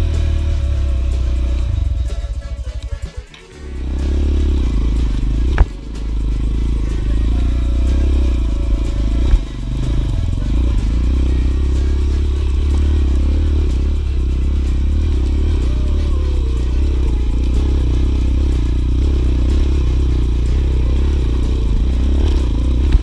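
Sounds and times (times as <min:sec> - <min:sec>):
dirt bike engine rumbling: 0:00.0 - 0:23.0.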